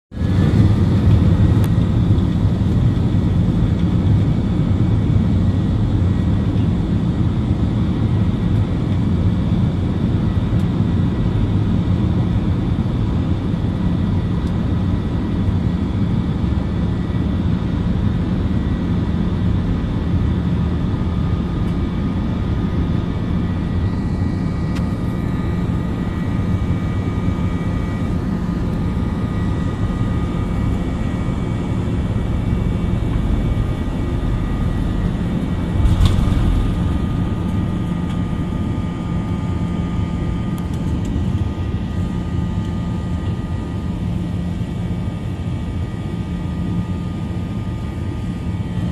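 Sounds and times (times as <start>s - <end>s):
jet engines rumbling: 0.1s - 48.8s.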